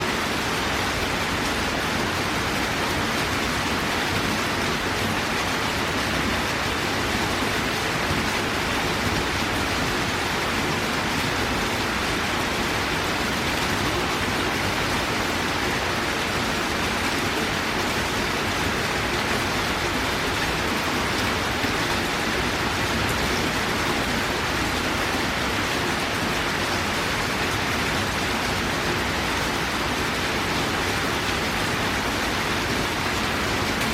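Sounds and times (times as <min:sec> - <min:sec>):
torrential rain: 0:00.0 - 0:33.9.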